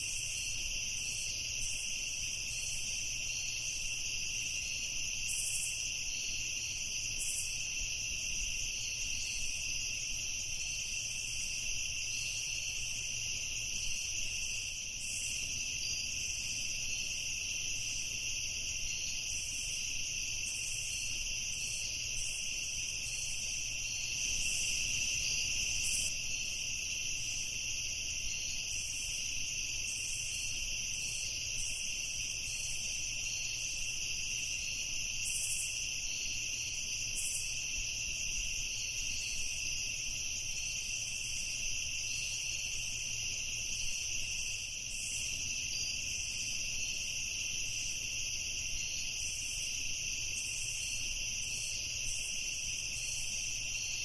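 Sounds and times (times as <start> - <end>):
crickets chirring: 0.0 - 54.0
faint insect calls: 0.0 - 54.0.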